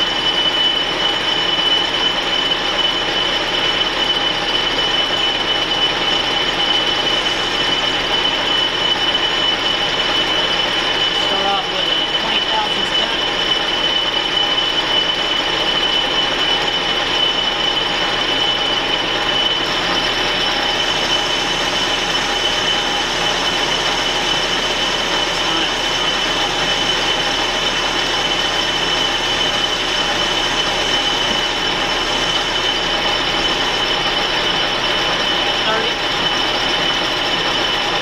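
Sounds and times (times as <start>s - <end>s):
high whine: 0.0s - 38.0s
metal lathe machining: 0.0s - 38.0s.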